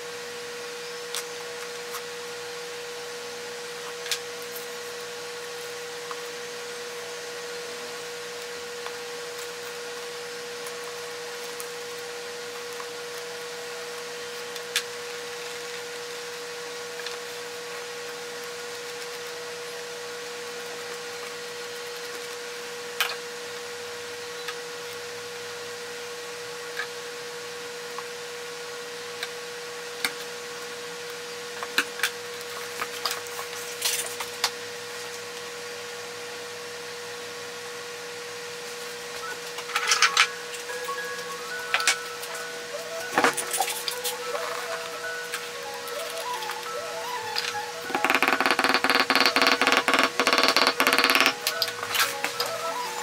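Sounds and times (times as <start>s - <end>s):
steady hum with faint hiss: 0.0s - 53.0s.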